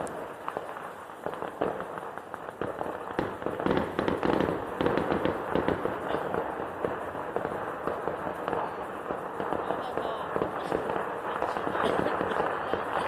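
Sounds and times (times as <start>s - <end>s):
fireworks crackling: 0.0s - 13.0s
fireworks pops and bangs: 0.0s - 13.0s.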